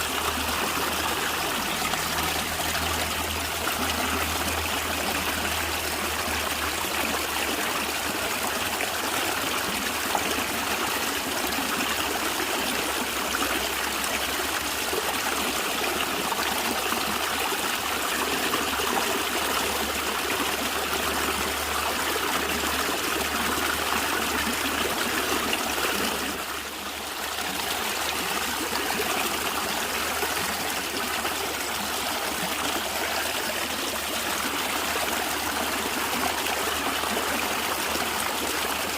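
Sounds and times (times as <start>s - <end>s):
stream gurgling and trickling: 0.0s - 38.9s.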